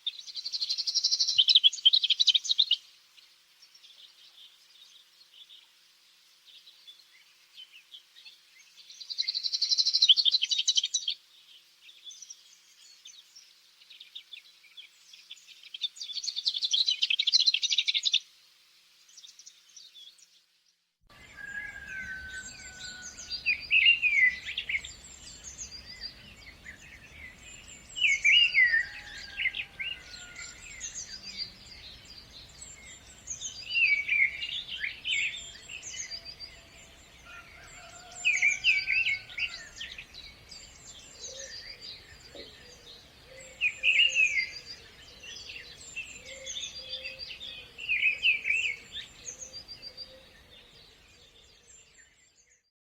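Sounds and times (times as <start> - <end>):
songbirds chirping and singing: 6.5 - 18.2, 21.1 - 52.7.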